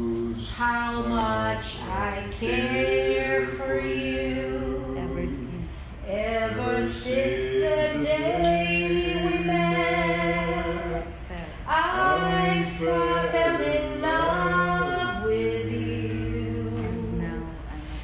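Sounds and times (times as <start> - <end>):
a cappella voices singing chords: 0.0 - 18.0.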